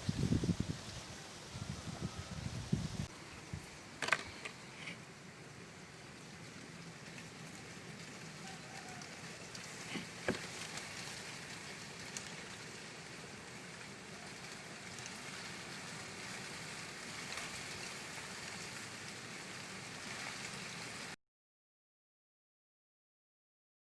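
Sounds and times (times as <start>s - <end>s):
steady rain falling: 0.0s - 21.2s.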